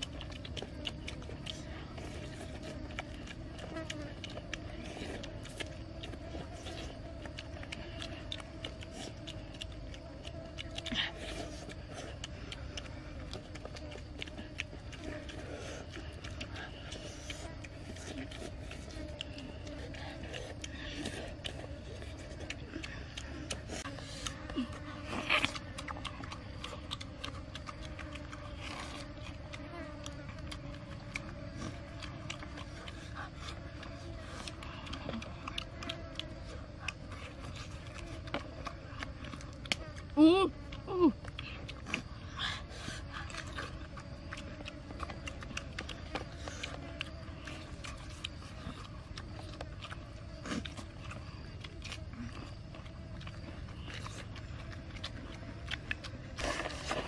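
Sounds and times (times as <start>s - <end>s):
wet lip smacks and chewing: 0.0s - 57.0s.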